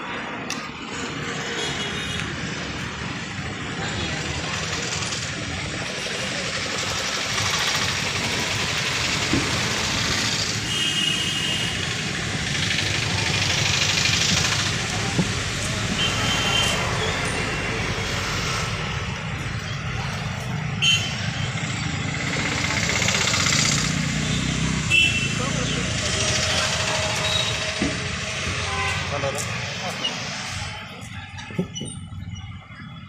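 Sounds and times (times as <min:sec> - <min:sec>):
faint voices: 0:02.7 - 0:10.1, 0:12.2 - 0:20.8, 0:21.5 - 0:33.0.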